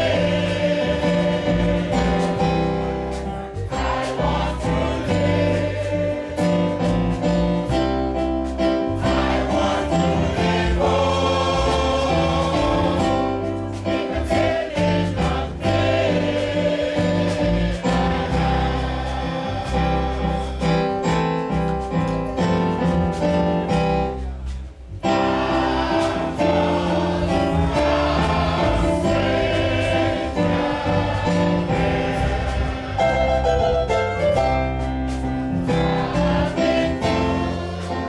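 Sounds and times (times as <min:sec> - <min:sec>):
gospel choir singing: 0:00.0 - 0:38.0.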